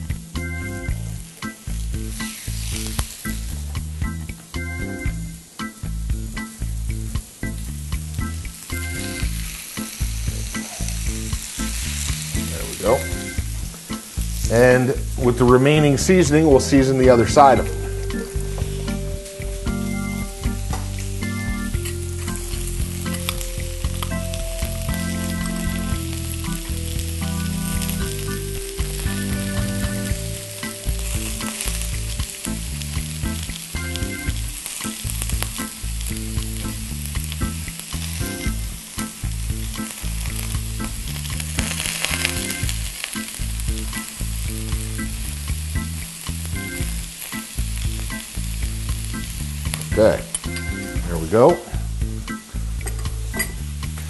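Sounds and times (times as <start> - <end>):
chicken sizzling on griddle: 0.0 - 54.0.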